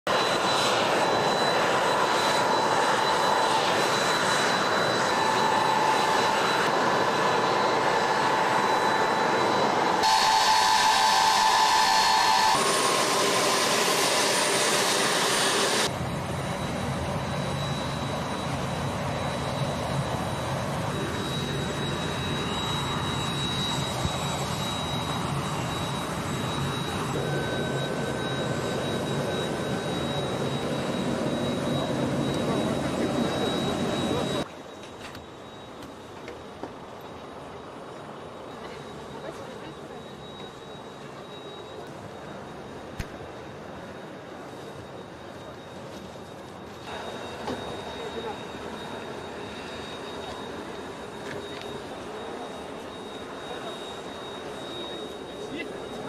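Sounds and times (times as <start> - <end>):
high-pitched turbine whine: 0.1 - 56.0
jet engines running: 0.1 - 56.0.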